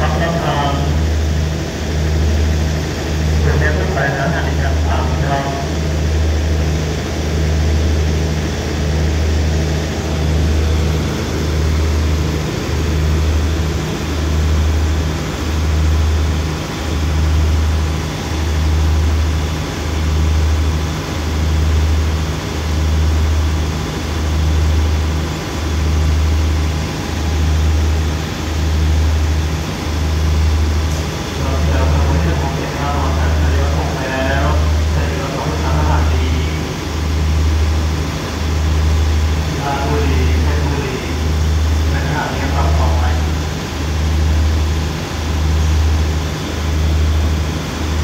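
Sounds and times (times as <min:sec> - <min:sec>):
diesel train engines idling: 0:00.0 - 0:48.0.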